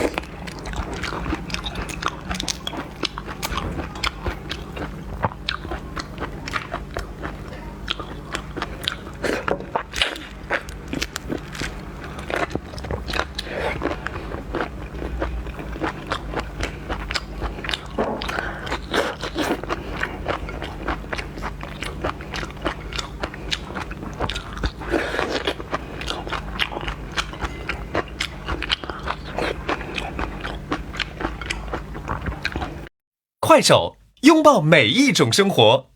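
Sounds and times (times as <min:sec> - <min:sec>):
crunching and chewing seafood: 0:00.0 - 0:32.9
steady low hum: 0:00.0 - 0:32.9.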